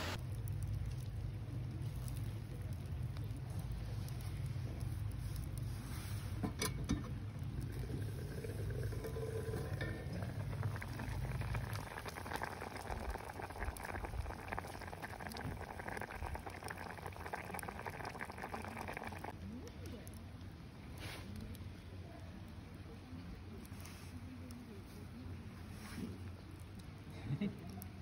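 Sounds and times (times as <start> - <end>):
liquid bubbling at a boil: 0.1 - 28.0.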